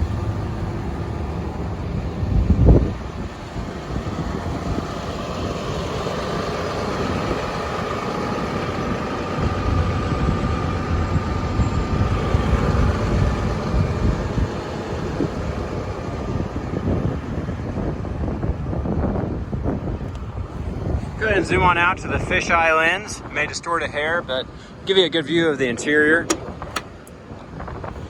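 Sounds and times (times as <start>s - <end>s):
excavator diesel engine idling: 0.0s - 28.0s.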